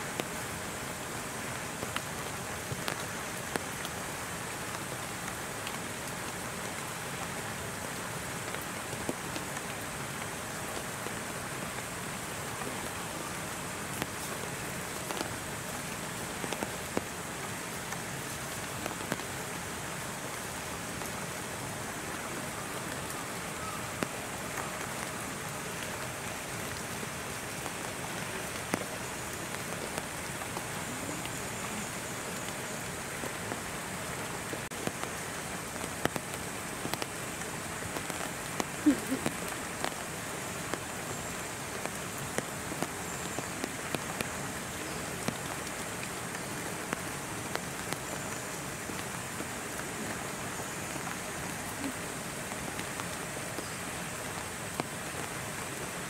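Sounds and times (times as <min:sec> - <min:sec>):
raindrops tapping close by: 0:00.0 - 0:56.0
steady rain falling: 0:00.0 - 0:56.0.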